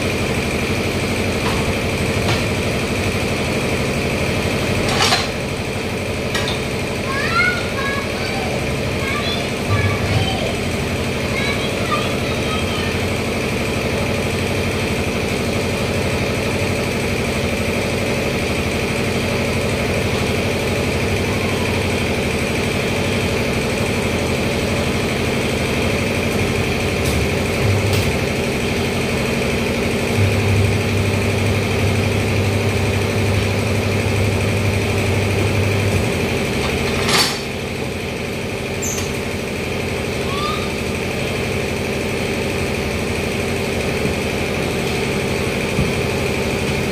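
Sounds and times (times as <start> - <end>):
machinery running: 0.0 - 46.9
tyre changer motor humming: 0.0 - 46.9.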